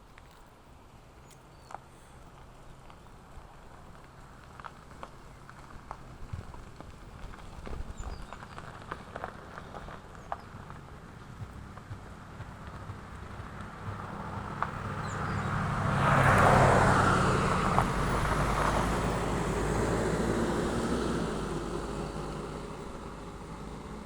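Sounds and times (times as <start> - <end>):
motor vehicle passing by: 4.0 - 24.0.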